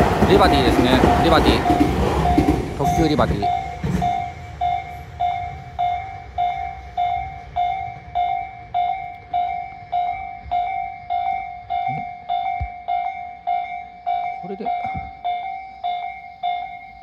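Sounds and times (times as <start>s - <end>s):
level crossing alarm dings: 0.0s - 17.0s
train rumble: 0.0s - 17.0s.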